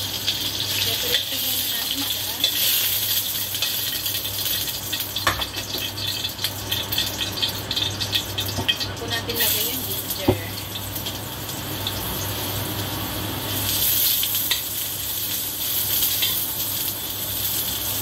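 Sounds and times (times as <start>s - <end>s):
oil sizzling in a wok: 0.0s - 18.0s.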